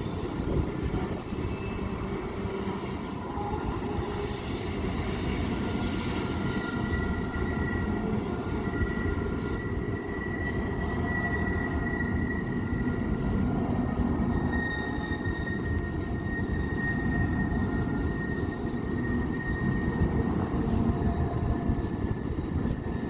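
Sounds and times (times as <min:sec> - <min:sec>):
train rumbling by: 0:00.0 - 0:23.0.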